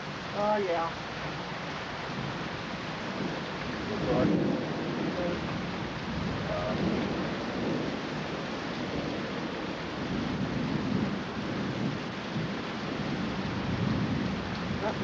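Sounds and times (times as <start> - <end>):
heavy rain falling: 0.0 - 15.0
low thunder rumbling: 2.1 - 15.0.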